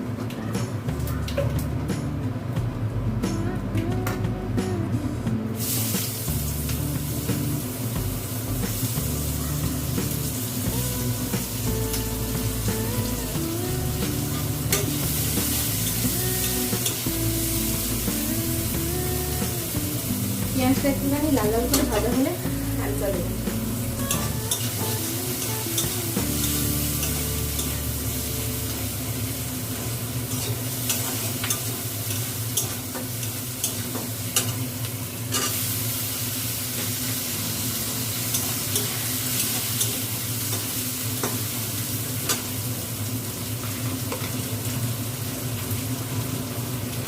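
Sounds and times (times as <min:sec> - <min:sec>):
onions sizzling in a pan: 0:05.3 - 0:47.0.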